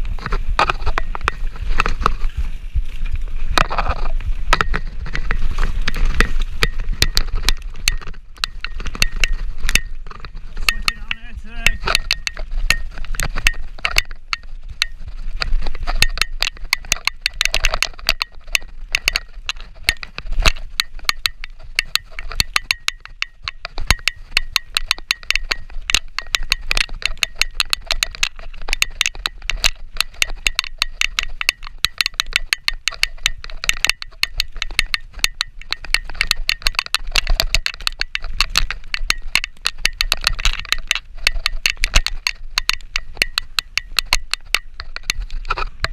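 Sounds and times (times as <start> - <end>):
bike chain and parts clattering: 0.0 - 45.9.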